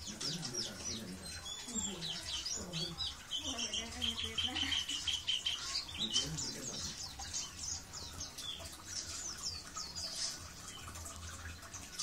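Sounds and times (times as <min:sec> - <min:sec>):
faint water sounds: 0:00.0 - 0:12.0.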